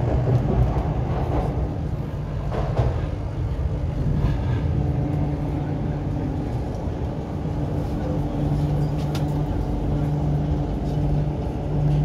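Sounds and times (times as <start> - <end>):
train hum: 0.0 - 12.0
train low rumble: 0.0 - 12.0.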